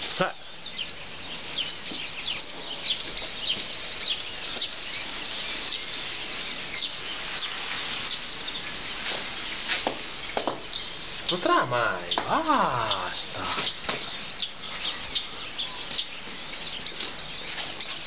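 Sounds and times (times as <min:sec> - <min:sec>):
outdoor hiss: 0:00.0 - 0:18.0
small birds chirping: 0:00.0 - 0:18.0.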